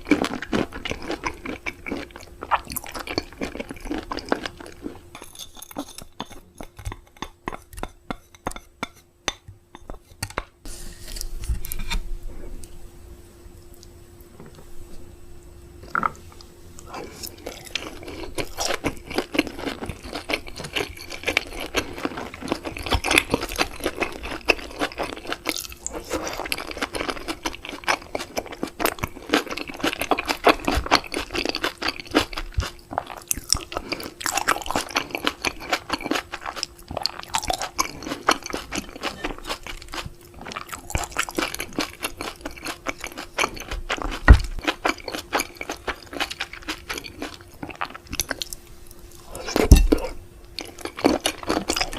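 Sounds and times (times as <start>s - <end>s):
chewing with wet crunches: 0.0s - 7.4s, 15.9s - 48.6s, 49.2s - 51.9s.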